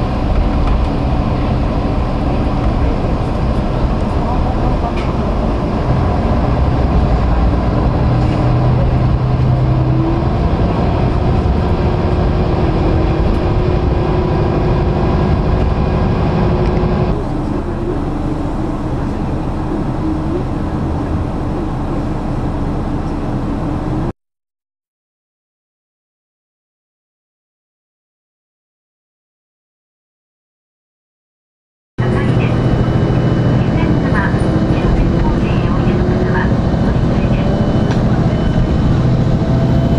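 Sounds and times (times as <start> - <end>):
diesel railcar engine hum: 0.0 - 24.1, 32.0 - 39.9.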